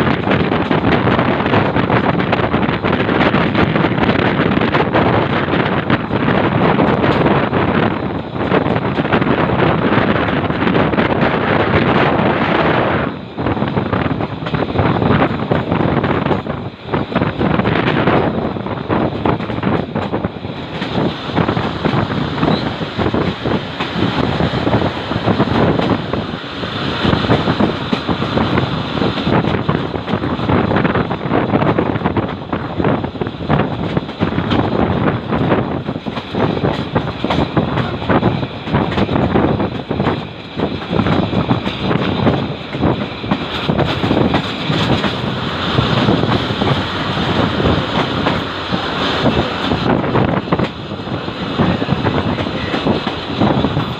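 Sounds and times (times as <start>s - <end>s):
train wheels clattering: 0.0s - 12.6s, 13.6s - 53.9s.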